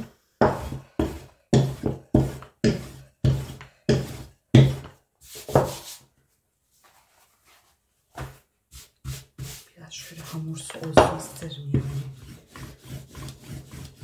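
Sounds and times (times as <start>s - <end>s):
rolling pin on dough: 0.0s - 6.0s, 8.2s - 14.0s.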